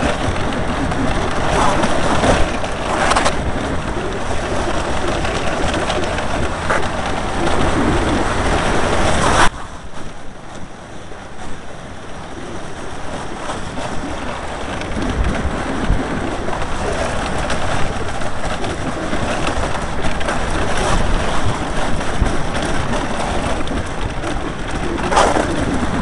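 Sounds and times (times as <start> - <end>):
wind rushing on microphone: 0.0 - 26.0.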